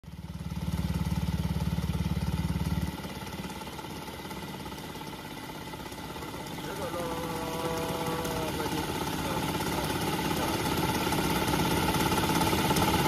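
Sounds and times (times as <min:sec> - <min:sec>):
scooter engine pulsing and idling: 0:00.0 - 0:13.0.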